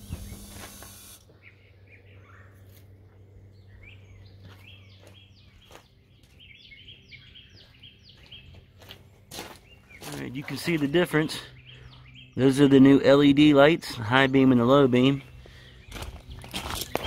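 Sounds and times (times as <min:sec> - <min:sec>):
low steady hum: 0:00.0 - 0:17.0
songbirds chirping: 0:00.0 - 0:17.0.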